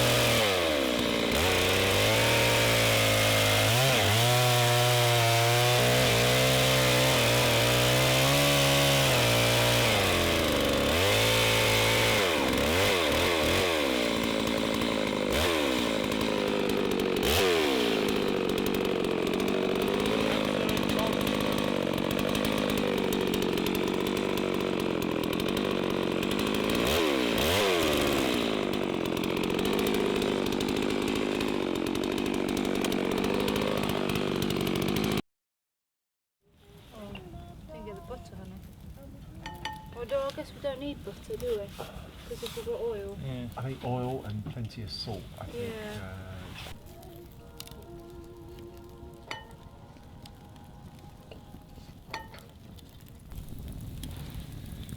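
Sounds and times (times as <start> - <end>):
chainsaw running at high revs: 0.0 - 35.2, 41.4 - 53.8.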